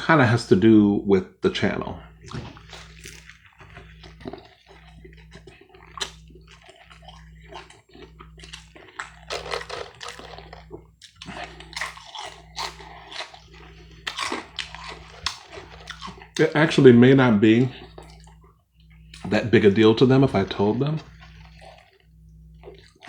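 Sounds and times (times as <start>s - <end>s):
wet chewing and mouth sounds: 2.1s - 23.0s.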